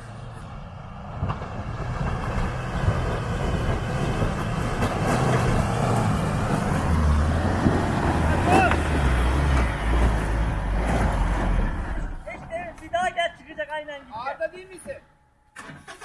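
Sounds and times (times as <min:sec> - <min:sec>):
pickup truck engine labouring: 0:00.0 - 0:13.0.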